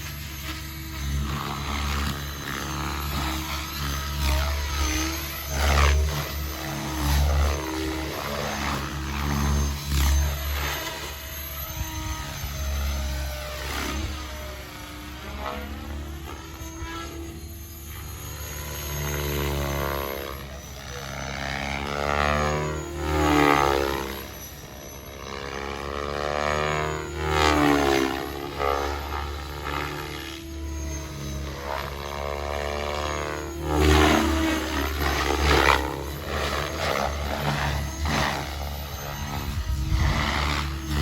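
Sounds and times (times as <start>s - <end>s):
rc helicopter motor whine: 0.0s - 41.0s.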